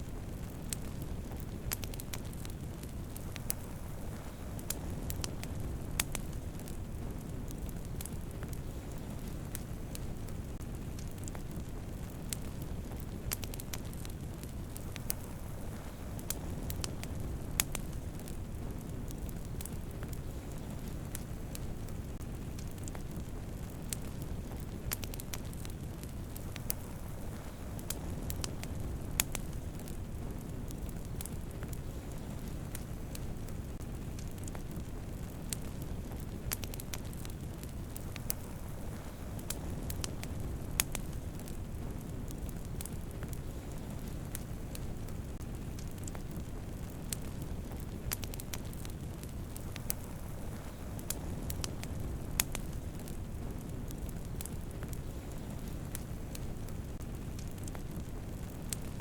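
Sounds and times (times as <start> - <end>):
campfire flames rushing: 0.0 - 59.0
fire crackling and popping: 0.0 - 59.0.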